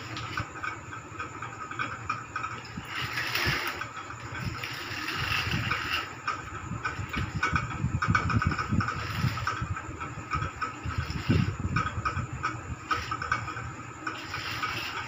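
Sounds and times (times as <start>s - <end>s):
plastic wheels rolling on tiles: 0.0s - 15.0s.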